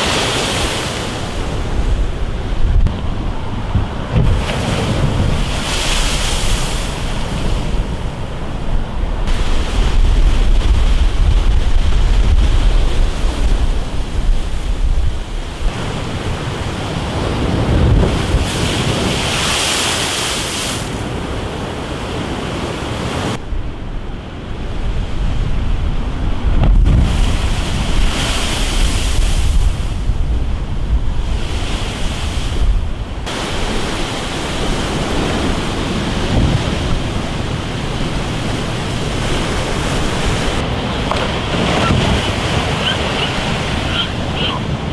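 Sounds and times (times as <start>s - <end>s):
wind buffeting microphone: 0.0s - 19.6s, 23.2s - 44.9s
waves surging and breaking: 0.0s - 44.9s.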